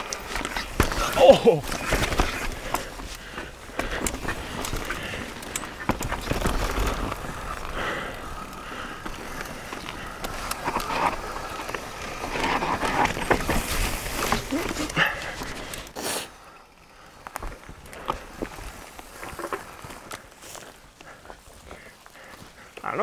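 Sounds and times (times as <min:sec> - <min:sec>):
bike tyre noise: 0:00.0 - 0:22.8.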